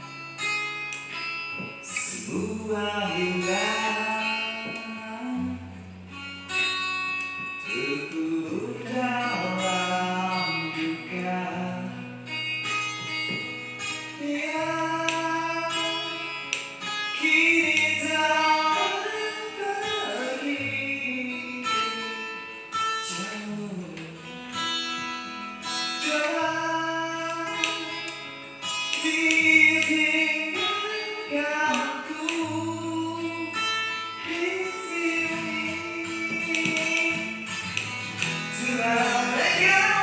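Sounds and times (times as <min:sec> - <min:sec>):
acoustic guitar: 0:00.0 - 0:40.0
man singing: 0:01.8 - 0:05.9, 0:07.6 - 0:12.4, 0:13.3 - 0:25.1, 0:25.8 - 0:40.0.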